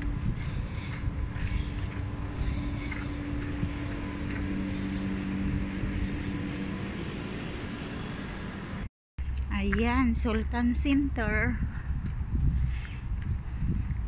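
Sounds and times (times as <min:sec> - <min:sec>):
wind on microphone: 0:00.0 - 0:08.2, 0:09.3 - 0:14.0
lower hum: 0:00.0 - 0:14.0
steady street hum: 0:00.0 - 0:14.0.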